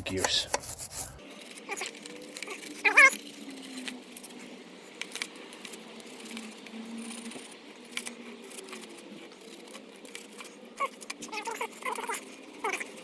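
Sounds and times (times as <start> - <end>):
light metallic clicks and scrapes: 0.3 - 13.0.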